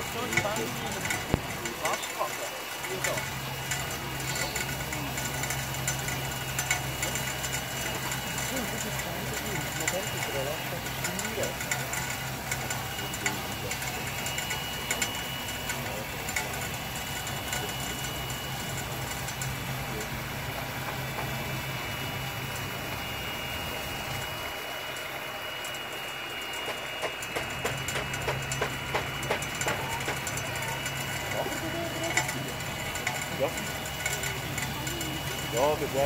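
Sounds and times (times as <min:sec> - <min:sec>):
model loader motors humming and whining: 0:00.0 - 0:36.0.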